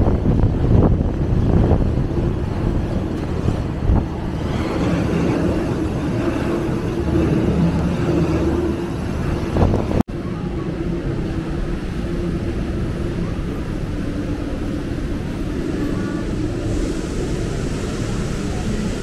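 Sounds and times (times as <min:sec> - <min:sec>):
faint jet engine whine: 0:00.0 - 0:19.0
jet airliners taxiing and idling: 0:00.0 - 0:19.0.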